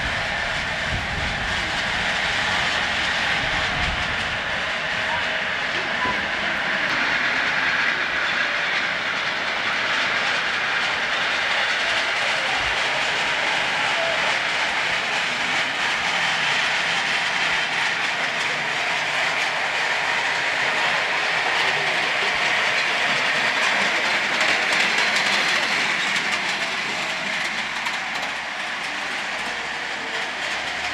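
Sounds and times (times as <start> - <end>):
train rolling along track: 0.0 - 30.9.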